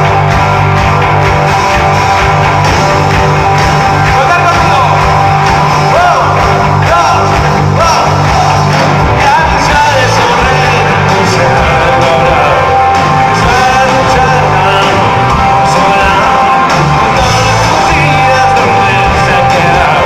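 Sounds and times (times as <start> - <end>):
rock band playing loudly: 0.0 - 20.0.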